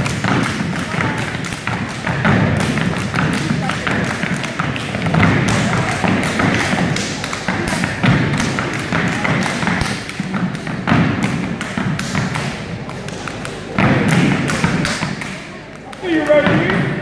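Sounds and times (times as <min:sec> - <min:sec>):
hands clapping: 0:00.0 - 0:17.0.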